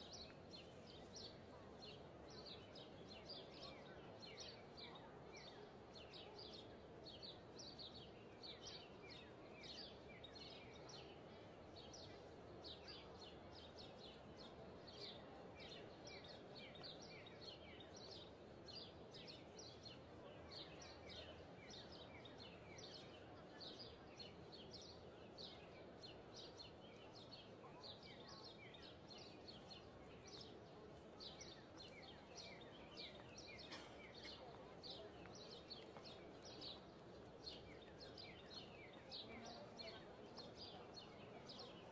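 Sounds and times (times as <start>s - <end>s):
faint steady background noise: 0.0s - 41.9s.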